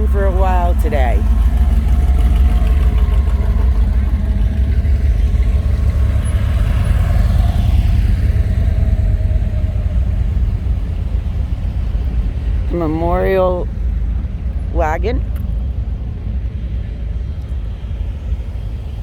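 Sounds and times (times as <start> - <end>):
cars driving slowly past: 0.0 - 19.0.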